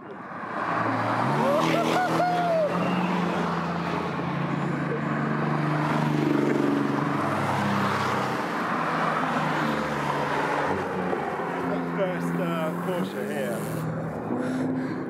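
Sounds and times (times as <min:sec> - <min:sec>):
sports cars driving past: 0:00.1 - 0:15.0.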